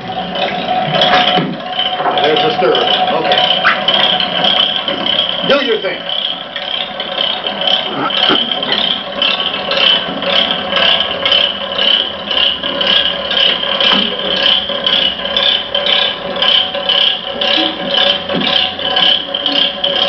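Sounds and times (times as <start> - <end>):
pulsing mechanical whirring rattle: 0.0 - 20.0.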